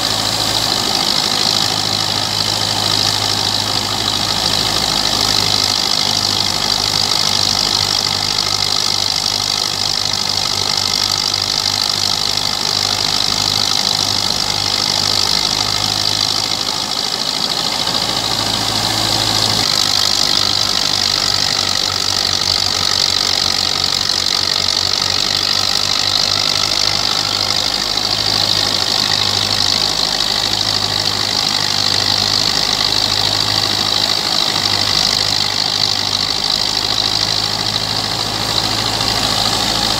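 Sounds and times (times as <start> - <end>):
thresher whirring hiss: 0.0 - 39.9
tractor diesel engine under load: 0.0 - 39.9.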